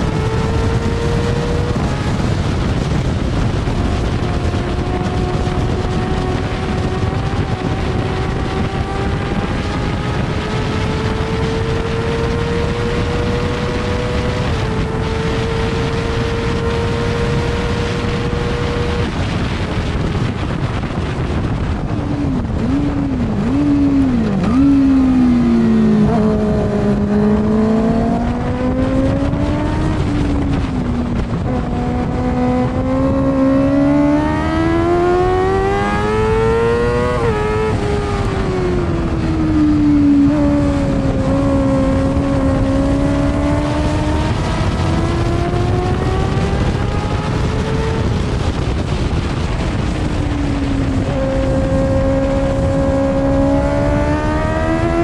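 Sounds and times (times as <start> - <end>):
racing engine at high revs: 0.0 - 55.0
wind rush: 0.0 - 55.0.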